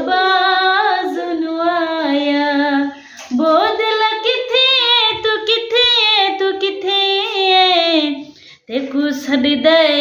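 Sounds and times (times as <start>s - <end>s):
woman singing unaccompanied: 0.0s - 10.0s.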